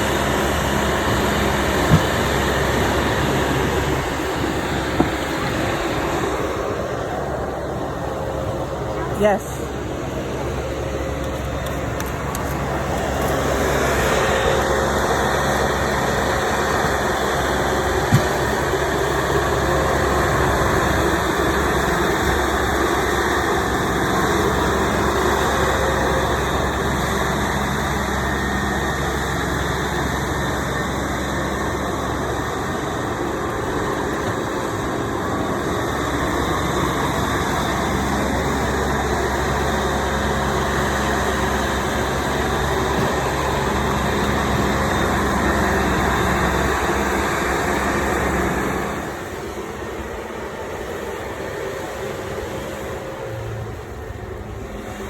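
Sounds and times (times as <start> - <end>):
engine running with hiss: 0.0 - 55.0.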